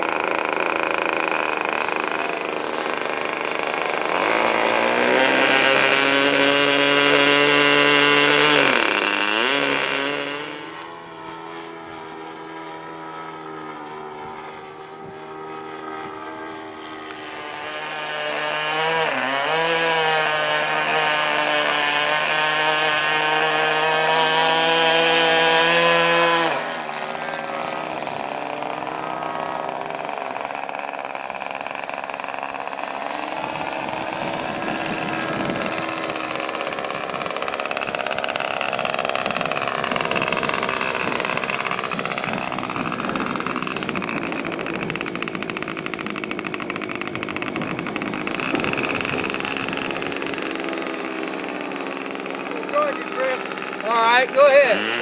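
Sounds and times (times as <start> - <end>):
model airplane engine: 0.0 - 55.0.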